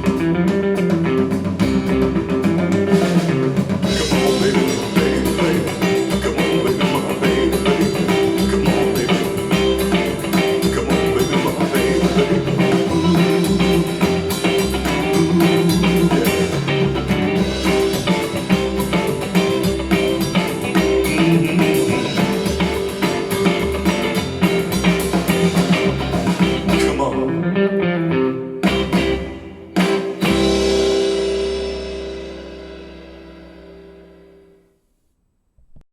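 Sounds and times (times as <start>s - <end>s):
blues rock music: 0.0s - 34.5s.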